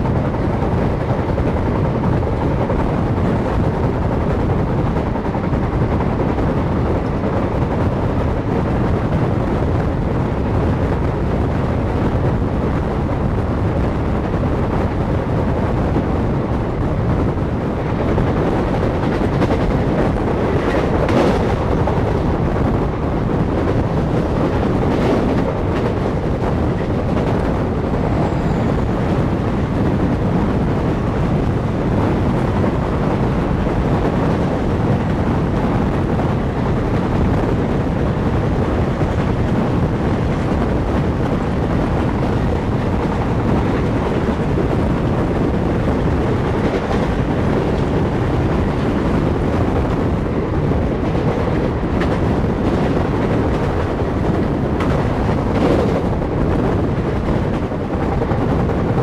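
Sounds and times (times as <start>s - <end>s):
loud train clatters: 0.0s - 59.0s
train wheels rumbling on rails: 0.0s - 59.0s
wind buffeting microphone: 0.0s - 59.0s.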